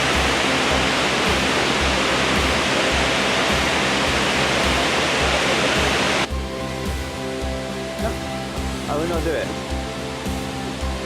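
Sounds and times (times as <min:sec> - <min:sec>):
background music with steady beat: 0:00.0 - 0:11.0
waterfall rushing: 0:00.0 - 0:11.0.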